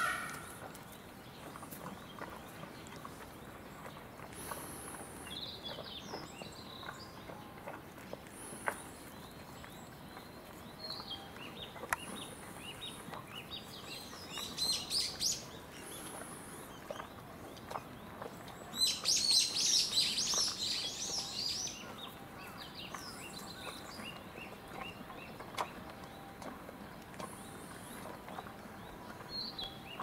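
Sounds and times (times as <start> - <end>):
small birds chirping and singing: 0.0 - 30.0.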